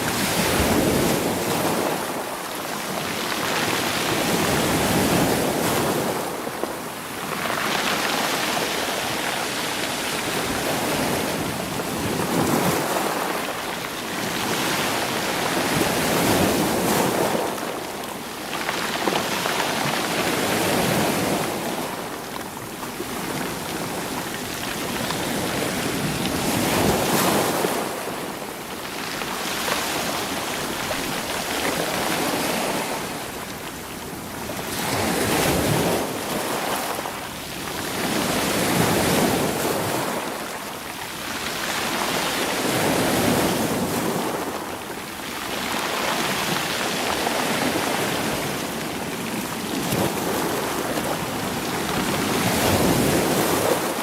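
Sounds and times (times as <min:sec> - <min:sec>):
sea waves over rolling stones: 0:00.0 - 0:54.0.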